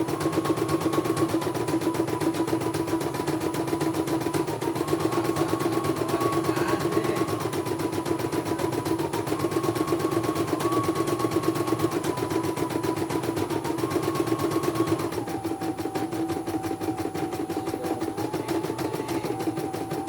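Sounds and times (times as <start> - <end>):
embroidery machine needle rhythm: 0.0 - 20.0.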